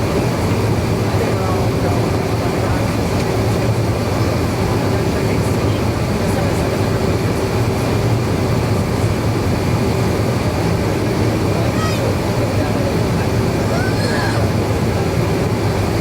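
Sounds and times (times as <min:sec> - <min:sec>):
low cabin hum: 0:00.0 - 0:16.0.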